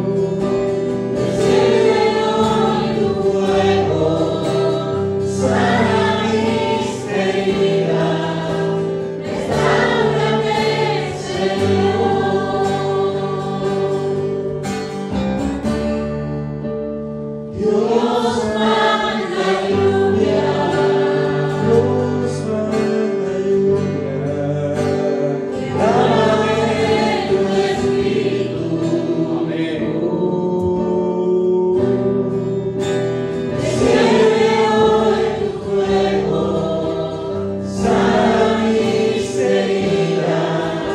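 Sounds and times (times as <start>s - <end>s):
choir singing worship song: 0.0s - 15.0s, 17.4s - 40.9s
instrumental backing: 0.0s - 40.9s.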